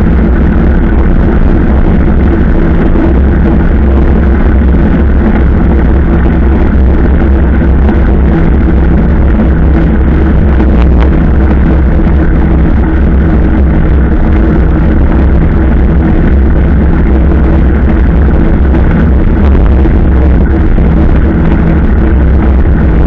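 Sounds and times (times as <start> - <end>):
wind rush on microphone: 0.0 - 23.0.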